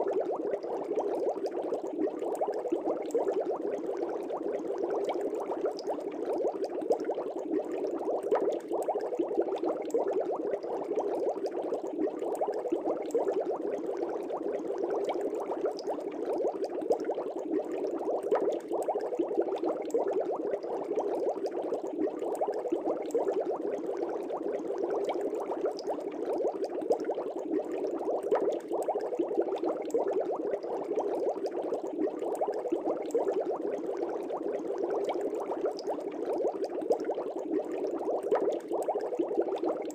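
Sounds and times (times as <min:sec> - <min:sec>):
aquarium air bubbling: 0:00.0 - 0:39.9.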